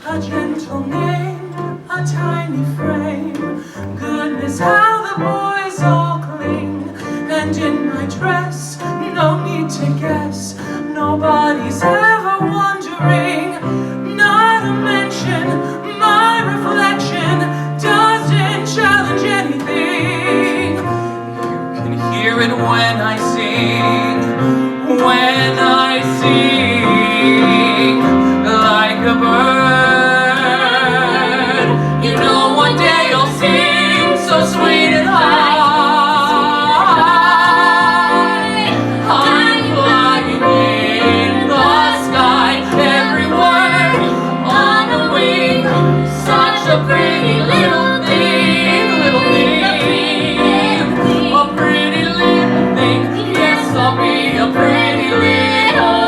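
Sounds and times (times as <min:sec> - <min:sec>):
woman singing with vibrato: 0:00.0 - 0:21.0, 0:21.8 - 0:56.0
instrumental accompaniment: 0:00.0 - 0:56.0.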